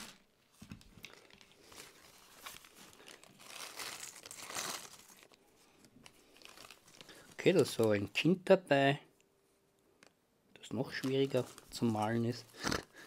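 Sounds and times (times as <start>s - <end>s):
plastic bag and foam crinkling: 0.0s - 8.4s, 10.8s - 12.9s.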